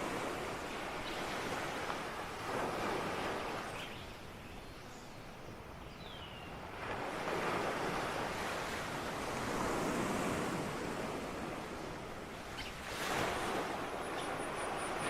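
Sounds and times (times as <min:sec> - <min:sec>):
ocean waves breaking: 0:00.0 - 0:04.0, 0:06.6 - 0:15.0.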